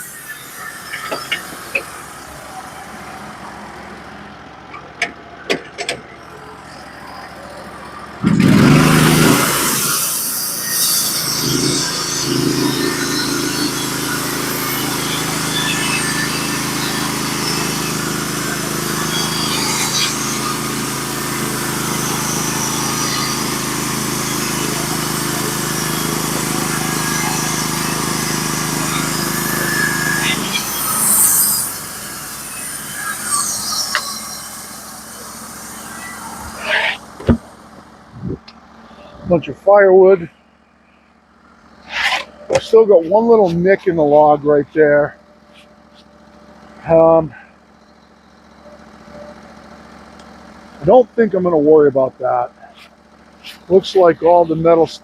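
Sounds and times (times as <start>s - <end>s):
band saw cutting log: 0.0s - 4.0s, 6.6s - 40.4s, 41.6s - 47.5s, 50.1s - 55.0s
band sawmill engine droning: 0.0s - 55.0s.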